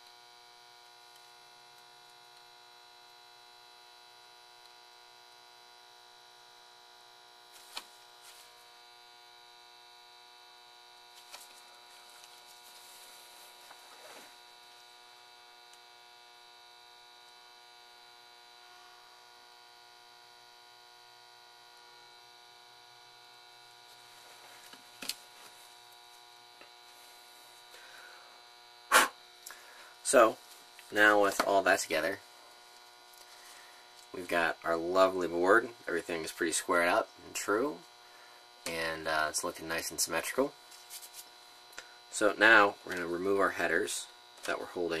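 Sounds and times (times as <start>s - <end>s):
faint electrical hum: 0.0s - 45.0s.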